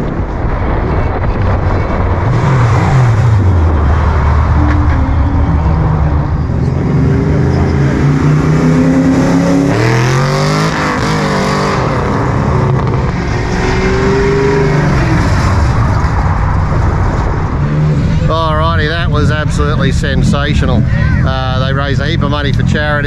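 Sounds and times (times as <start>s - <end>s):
car engine accelerating: 0.4s - 23.0s.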